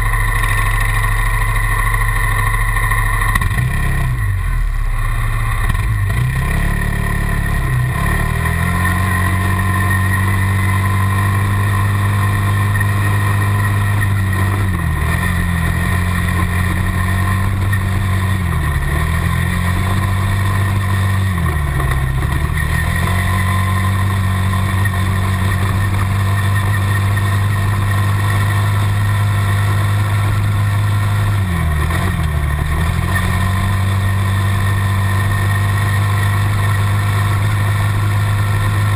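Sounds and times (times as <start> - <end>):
quad bike engine running hard: 0.0 - 38.9.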